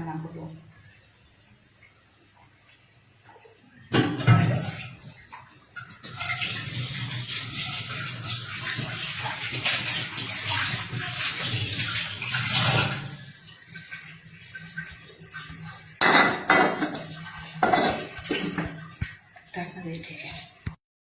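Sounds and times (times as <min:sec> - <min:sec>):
water running: 0:00.0 - 0:20.8.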